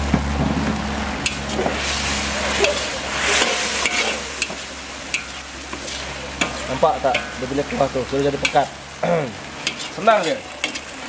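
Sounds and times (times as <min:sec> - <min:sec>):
sauce bubbling and sizzling: 0:00.0 - 0:11.0
metal ladle scraping wok: 0:01.2 - 0:08.8, 0:09.4 - 0:11.0.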